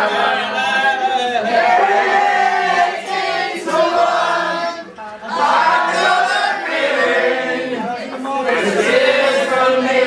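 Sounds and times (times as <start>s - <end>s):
group singing like a choir: 0.0s - 10.0s.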